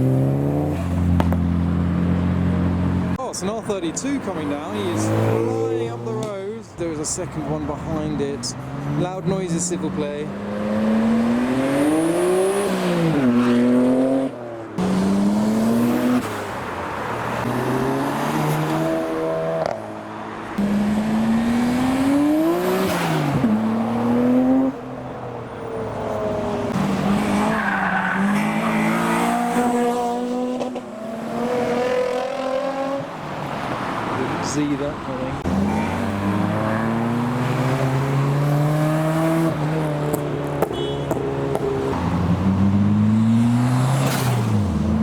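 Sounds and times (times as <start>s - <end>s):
cars accelerating hard past: 0.0s - 3.2s, 8.5s - 45.0s.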